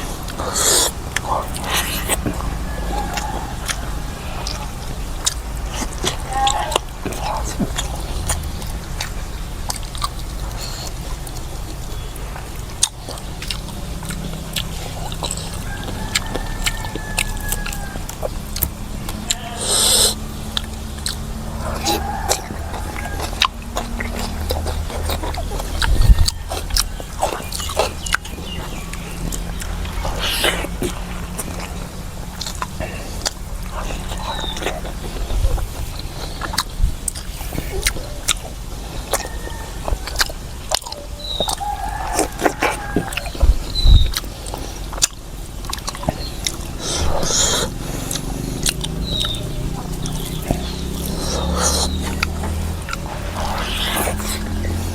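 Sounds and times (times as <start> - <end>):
person chewing: 0.0 - 54.9
steady low hum: 0.0 - 54.9
wet mouth clicks and smacks: 0.2 - 3.8, 4.4 - 21.4, 22.0 - 39.3, 39.9 - 54.8.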